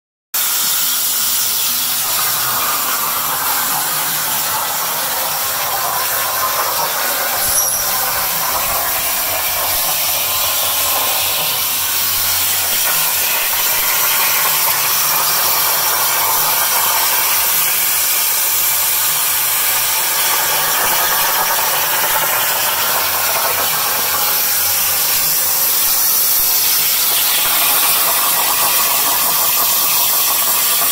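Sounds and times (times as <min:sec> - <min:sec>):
plasma cutter hissing: 0:00.4 - 0:30.9.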